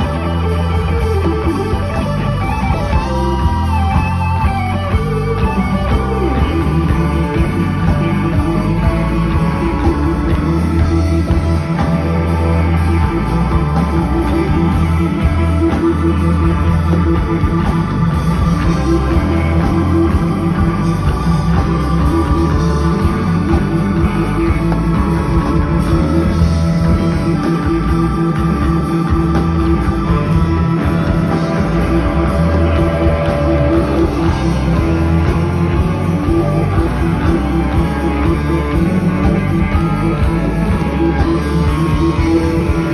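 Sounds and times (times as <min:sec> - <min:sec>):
drums: 0:00.0 - 0:42.9
electric guitar: 0:00.0 - 0:42.9
keyboards: 0:00.0 - 0:42.9.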